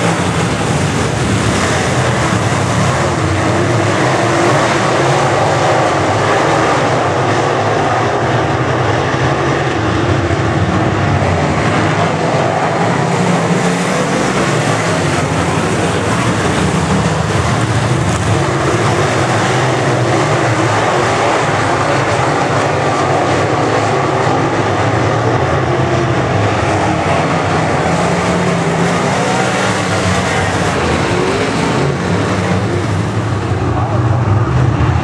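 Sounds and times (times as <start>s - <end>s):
race car engines droning: 0.0s - 35.0s.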